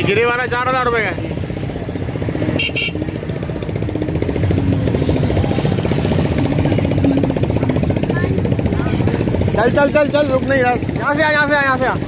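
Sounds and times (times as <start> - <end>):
motorcycle engine chugging: 0.0 - 12.0.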